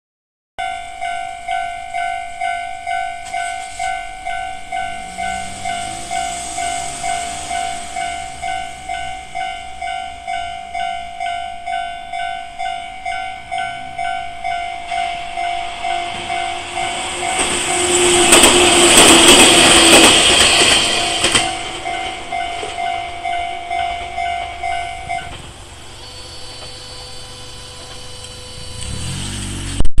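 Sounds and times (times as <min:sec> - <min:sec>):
level-crossing alarm bell ringing: 0:00.6 - 0:28.8
train passing: 0:00.6 - 0:29.8.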